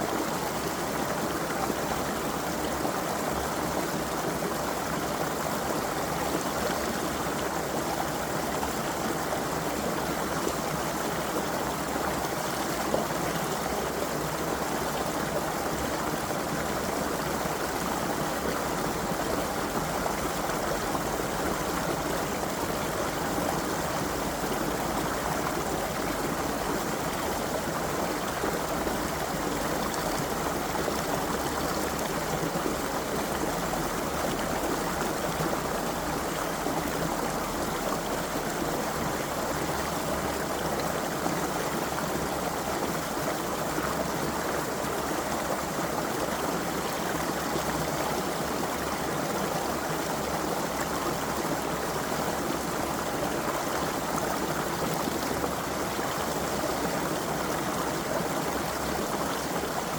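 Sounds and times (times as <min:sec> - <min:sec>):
creek water flowing over stones: 0:00.0 - 0:59.9.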